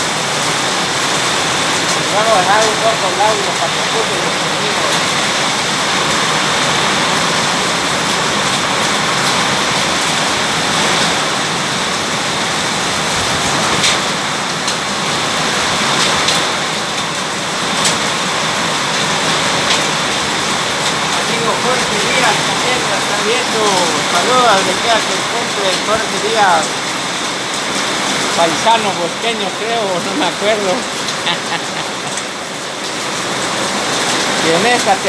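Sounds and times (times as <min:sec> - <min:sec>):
heavy rain hissing: 0:00.0 - 0:35.0
raindrops ticking on hard surfaces: 0:00.0 - 0:35.0.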